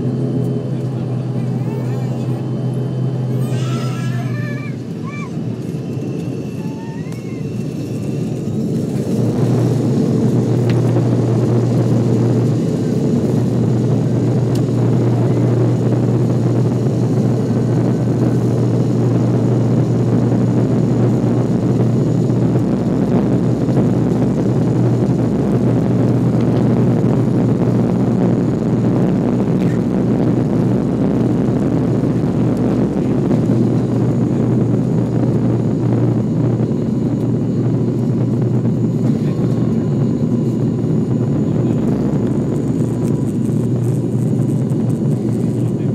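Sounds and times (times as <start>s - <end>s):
turboprop propeller drone: 0.0s - 45.9s.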